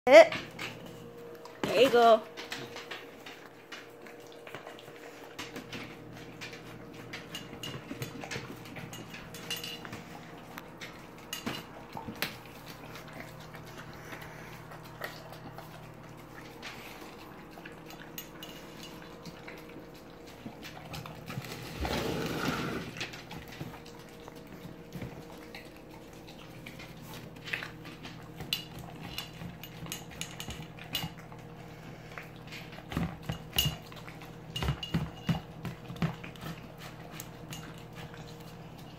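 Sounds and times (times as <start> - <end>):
dog eating from metal plate: 0.1 - 38.9
steady low hum: 0.1 - 38.9.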